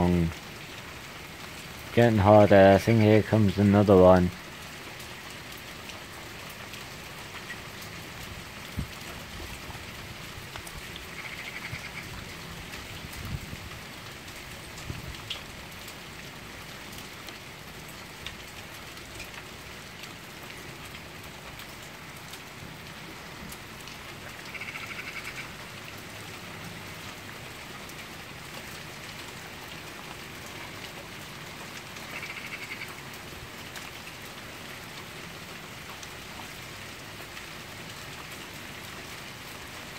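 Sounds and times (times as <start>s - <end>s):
hard rain falling: 0.0s - 39.9s.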